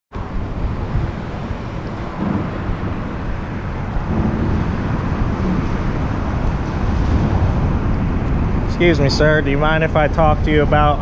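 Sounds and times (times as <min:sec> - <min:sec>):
steady low rumble: 0:00.1 - 0:11.0
wind buffeting microphone: 0:00.1 - 0:11.0.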